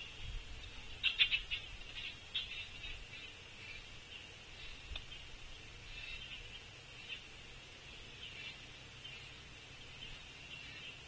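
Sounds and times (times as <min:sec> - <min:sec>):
high-pitched chorus of small animals: 0:00.8 - 0:11.0.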